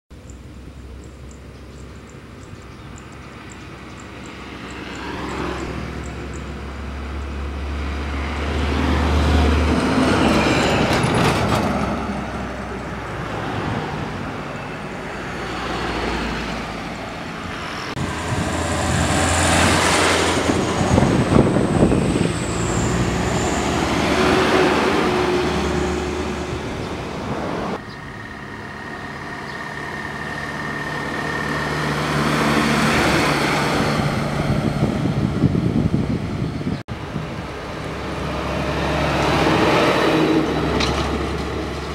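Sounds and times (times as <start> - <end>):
diesel trucks passing: 0.1 - 41.9
car passing: 2.3 - 41.9.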